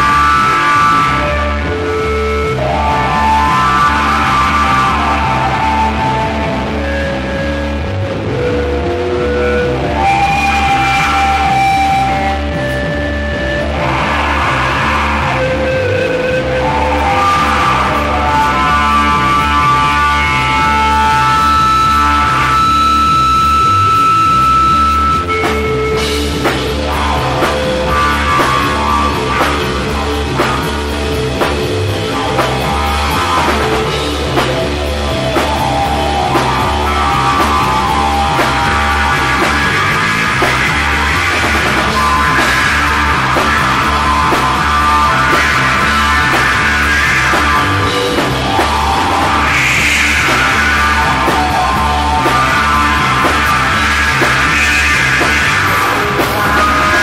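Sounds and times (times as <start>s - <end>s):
psychedelic rock music: 0.0s - 57.0s.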